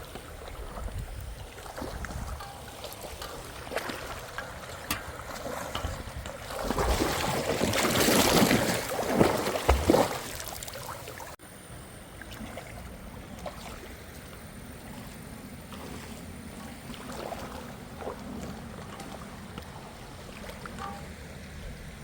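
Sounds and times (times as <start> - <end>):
person wading through water: 0.0 - 11.4, 12.2 - 22.0.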